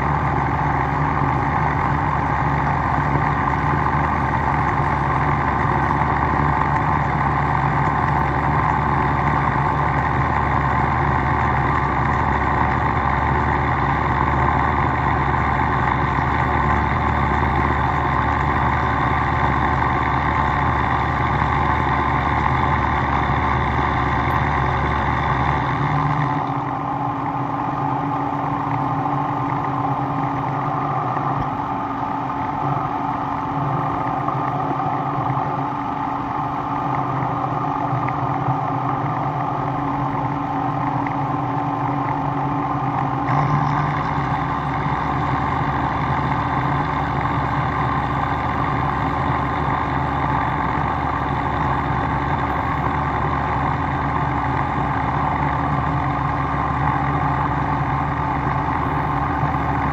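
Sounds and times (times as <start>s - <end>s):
workshop machine running: 0.0s - 59.9s.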